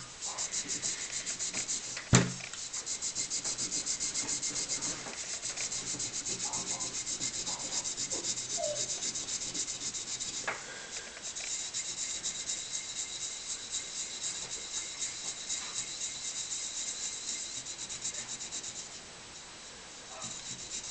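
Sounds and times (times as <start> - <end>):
abrasive scrubbing metal: 0.0 - 2.0, 2.7 - 19.1, 20.1 - 20.9.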